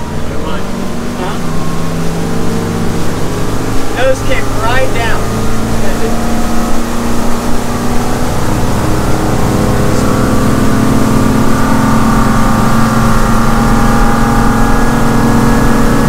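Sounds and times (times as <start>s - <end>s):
boat engine drone: 0.0s - 16.0s
wind and water rushing: 0.0s - 16.0s.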